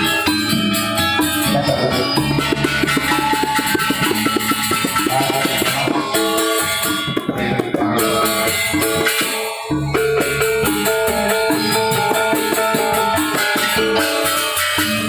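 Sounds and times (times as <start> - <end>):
gamelan ensemble playing: 0.0 - 15.0.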